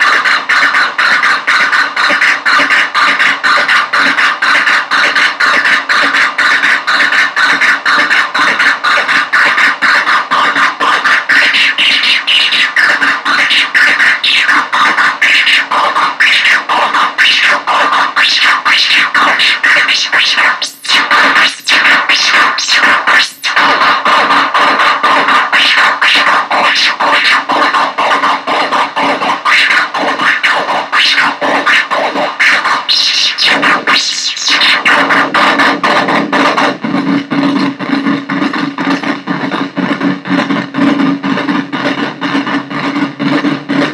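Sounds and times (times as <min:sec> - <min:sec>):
sweeping filtered synth tones: 0:00.0 - 0:35.9
stuttering synthesizer buzz: 0:00.0 - 0:43.9.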